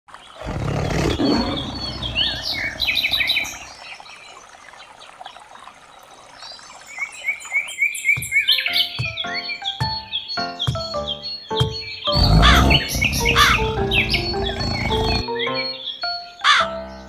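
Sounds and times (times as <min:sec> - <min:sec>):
birds chirping: 0:00.1 - 0:17.0.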